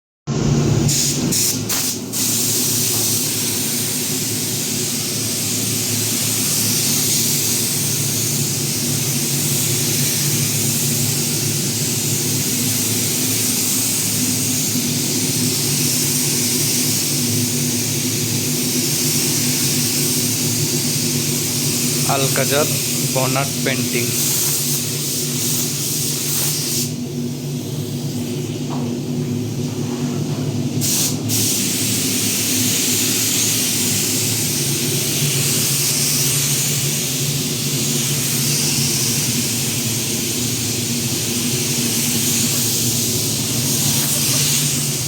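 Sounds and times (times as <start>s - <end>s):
spray gun hissing: 0.9s - 28.6s, 30.8s - 45.0s.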